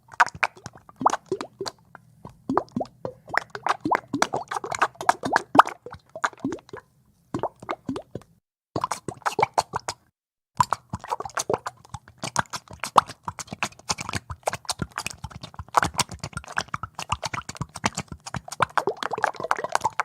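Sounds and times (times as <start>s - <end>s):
bubbles plopping in thick liquid: 0.0s - 6.8s, 7.4s - 20.0s.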